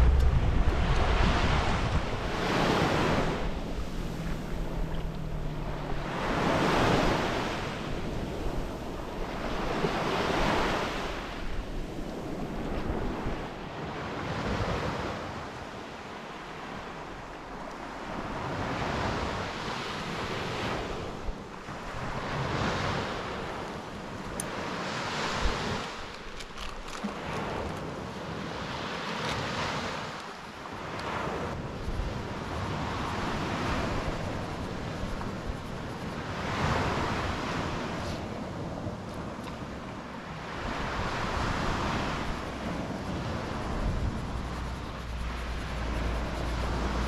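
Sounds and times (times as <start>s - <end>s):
surf breaking on shore: 0.0s - 26.2s, 27.0s - 47.0s
wind rumble on microphone: 0.0s - 47.0s.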